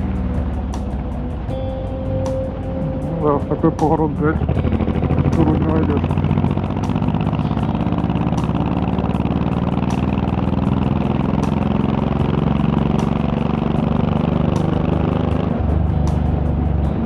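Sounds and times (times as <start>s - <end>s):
motorcycle exhaust note: 0.0s - 17.0s.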